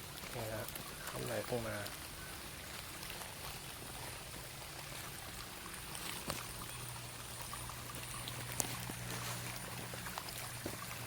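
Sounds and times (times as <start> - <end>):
water rushing along a ditch: 0.0 - 11.0.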